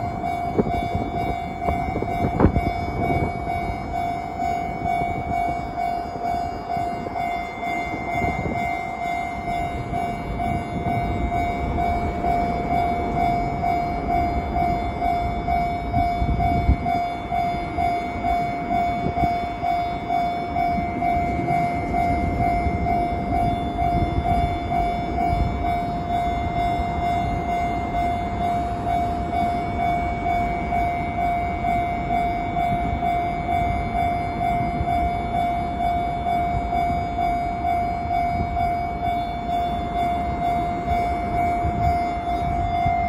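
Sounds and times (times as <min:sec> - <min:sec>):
level-crossing warning bell: 0:00.0 - 0:43.0.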